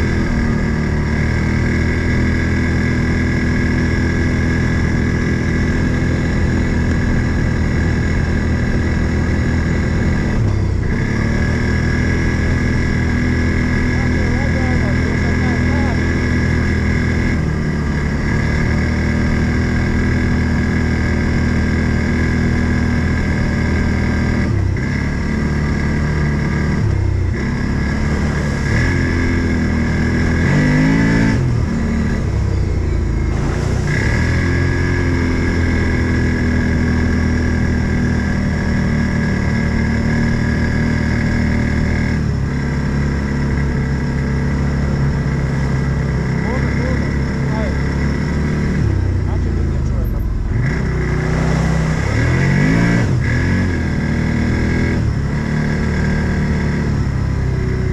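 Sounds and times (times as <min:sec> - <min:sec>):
off-road vehicle engine running: 0:00.0 - 0:57.9.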